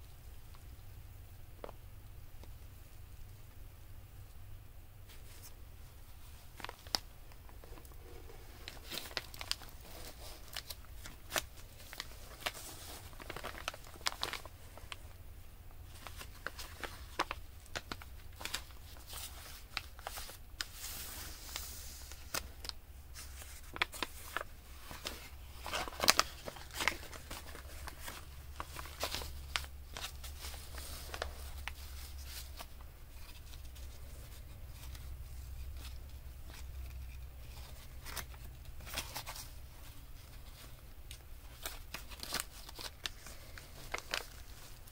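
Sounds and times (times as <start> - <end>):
paper rustling and crinkling: 5.1 - 15.2, 15.8 - 44.9.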